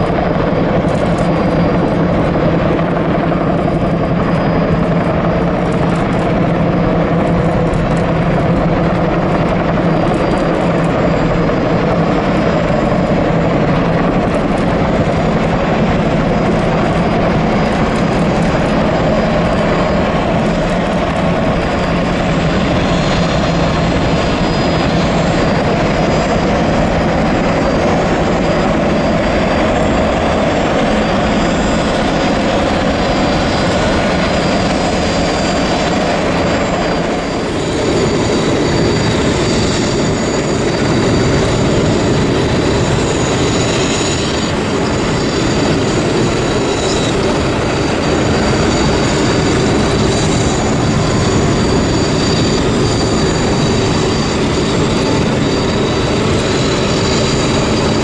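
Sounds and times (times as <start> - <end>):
helicopter rotor noise: 0.0 - 58.0
high turbine whine: 0.0 - 58.0.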